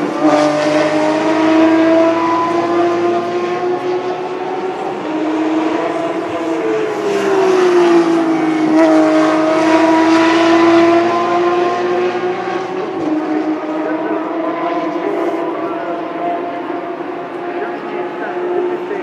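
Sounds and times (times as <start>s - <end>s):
higher engine note: 0.0s - 19.0s
racing car engines: 0.0s - 19.0s.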